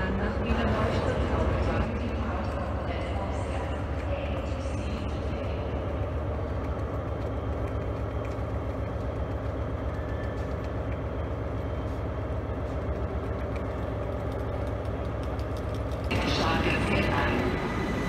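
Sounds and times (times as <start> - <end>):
railway station rumble and hum: 0.0 - 18.0.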